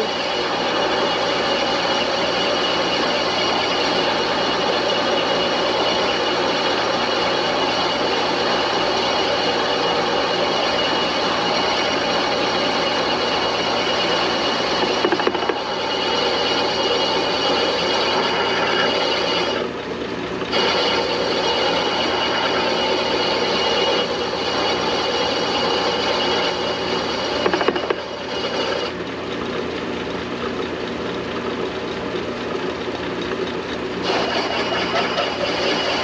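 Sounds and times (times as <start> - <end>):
cutting tool scraping steel: 0.0 - 19.7, 20.4 - 29.0, 34.0 - 36.0
metal lathe running: 0.0 - 36.0.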